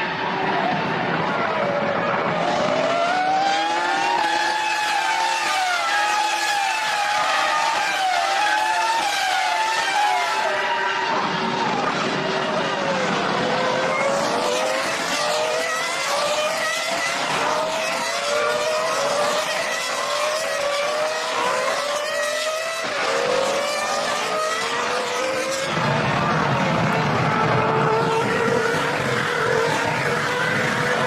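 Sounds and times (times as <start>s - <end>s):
racing car engines accelerating: 0.0s - 31.0s.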